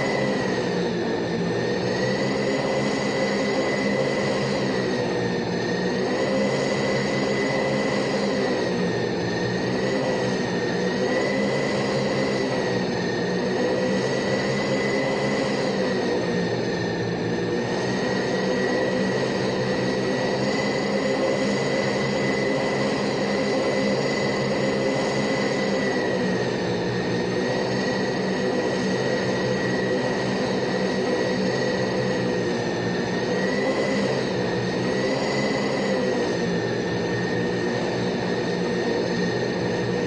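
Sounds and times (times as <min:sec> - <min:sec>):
turboprop engines droning: 0:00.0 - 0:40.0.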